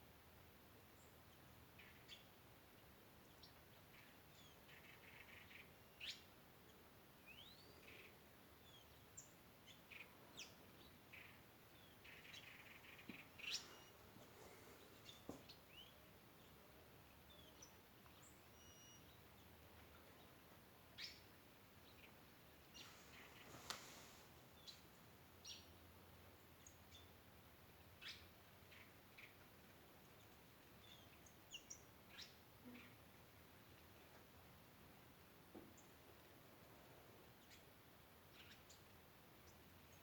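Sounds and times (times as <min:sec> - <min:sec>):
small birds chirping: 0:00.8 - 0:40.0.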